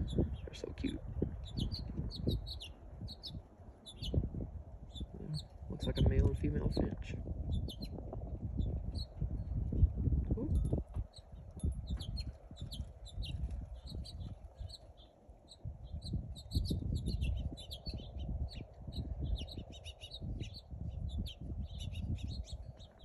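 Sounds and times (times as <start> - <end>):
small songbirds chirping: 0.0 - 23.0
wind buffeting microphone: 0.0 - 23.0.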